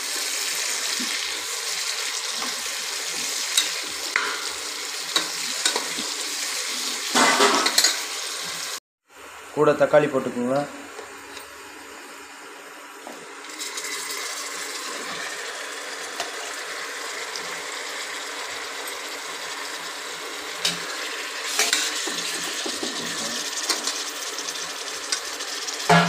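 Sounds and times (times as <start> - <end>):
vegetables sizzling in a pot: 0.0 - 9.6, 10.4 - 26.0.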